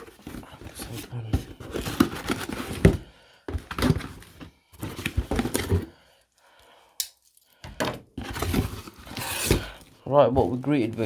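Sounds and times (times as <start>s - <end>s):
rustling of cardboard and wrapping: 0.0s - 6.4s, 7.2s - 11.0s.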